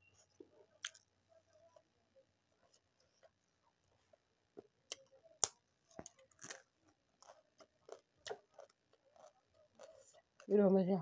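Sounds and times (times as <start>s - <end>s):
mouth chewing food: 0.0s - 10.7s.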